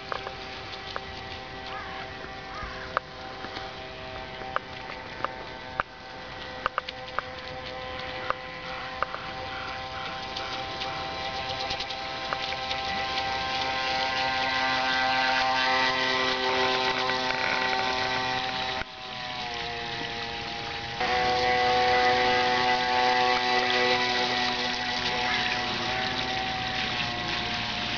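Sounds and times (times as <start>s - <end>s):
model boat motor whining: 0.0s - 27.9s.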